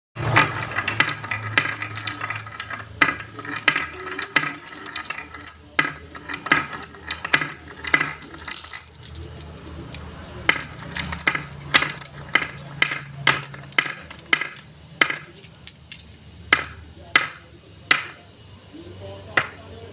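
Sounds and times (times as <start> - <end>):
marbles clicking and clattering: 0.2 - 18.2, 19.3 - 19.6.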